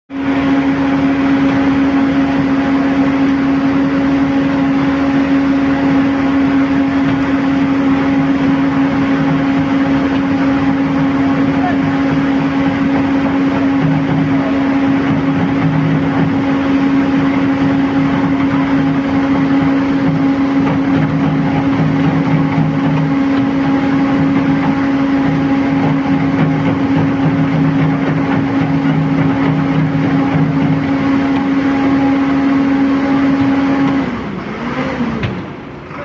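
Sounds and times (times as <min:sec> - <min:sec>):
cement mixer running: 0:00.1 - 0:36.0.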